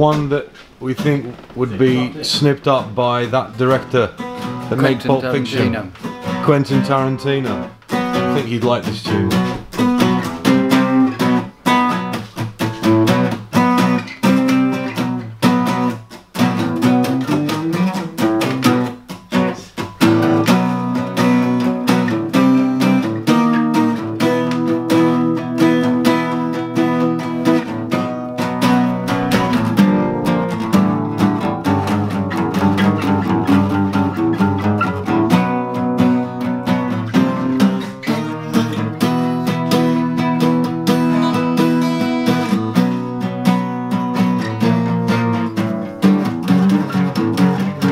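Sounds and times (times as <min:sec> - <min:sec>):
guitar strumming chords: 0:00.0 - 0:47.9.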